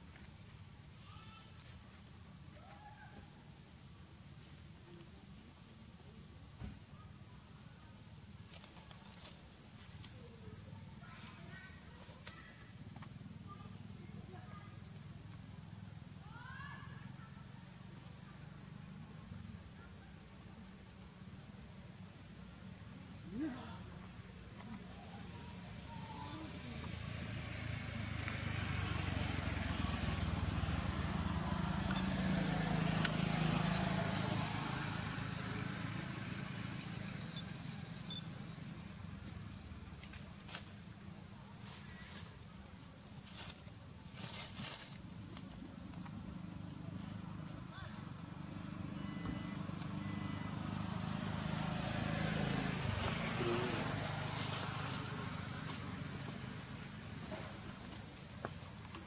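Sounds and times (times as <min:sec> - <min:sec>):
distant motor vehicle hum: 0:00.0 - 0:59.0
insect chorus: 0:00.0 - 0:59.0.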